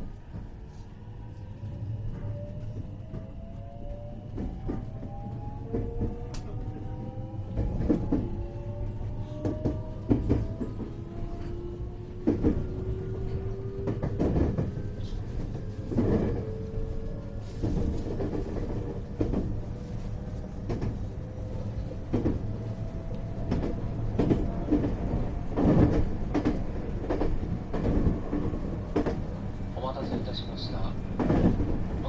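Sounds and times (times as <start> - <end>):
low train rumble: 0.0 - 32.0.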